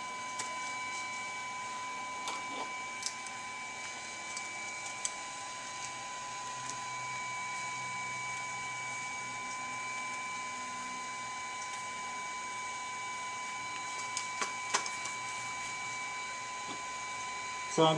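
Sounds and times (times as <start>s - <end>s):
high electronic whine: 0.0s - 17.9s.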